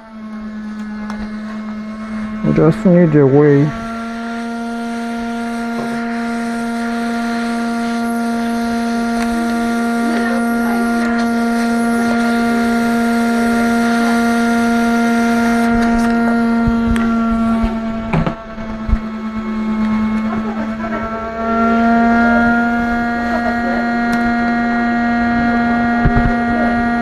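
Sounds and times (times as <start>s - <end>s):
hot air station humming: 0.0s - 27.0s.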